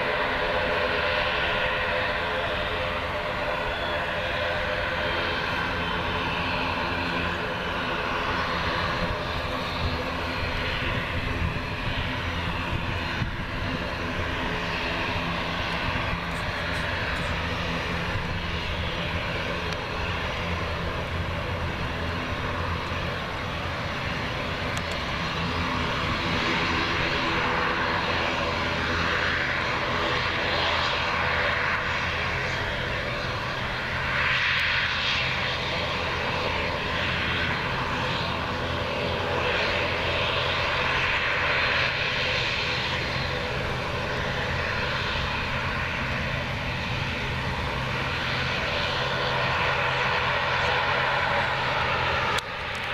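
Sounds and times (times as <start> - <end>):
turboprop engines droning: 0.0 - 52.9.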